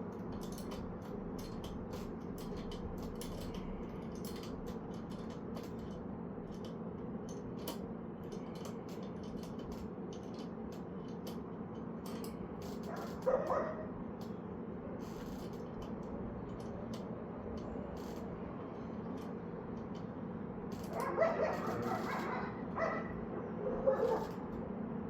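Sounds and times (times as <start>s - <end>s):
steady low hum: 0.0s - 25.0s
small mechanical clicks and ticks: 0.1s - 14.4s, 15.0s - 22.6s, 23.9s - 24.6s.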